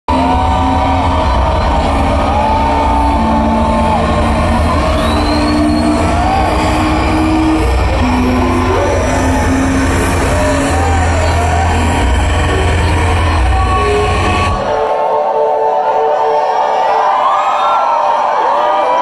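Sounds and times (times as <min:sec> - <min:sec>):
electronic synth music: 0:00.1 - 0:17.3
audience whooping and whistling: 0:00.1 - 0:19.0.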